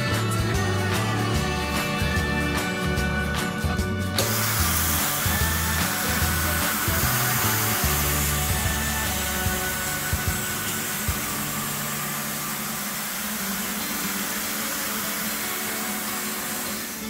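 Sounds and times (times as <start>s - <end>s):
background music: 0.0s - 17.0s
steam cleaner hissing: 0.0s - 17.0s.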